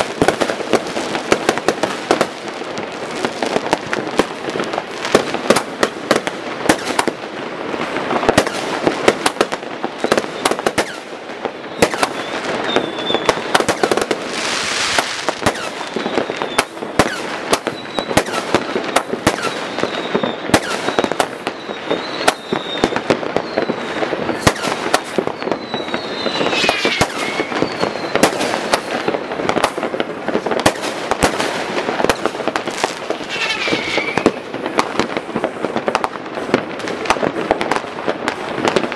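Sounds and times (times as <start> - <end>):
fireworks bangs and crackles: 0.0 - 38.9
whistling fireworks: 0.0 - 38.9.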